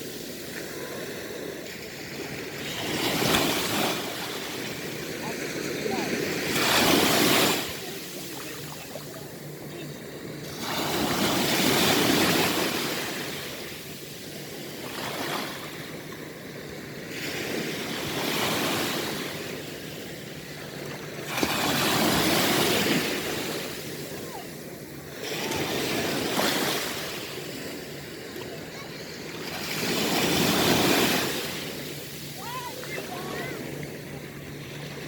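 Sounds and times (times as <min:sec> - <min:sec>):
ocean waves breaking on shore: 0:00.0 - 0:35.0.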